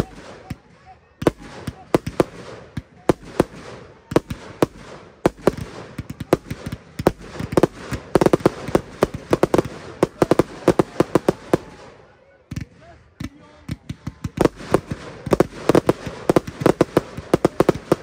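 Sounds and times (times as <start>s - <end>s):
fireworks bangs and crackle: 0.0s - 18.0s.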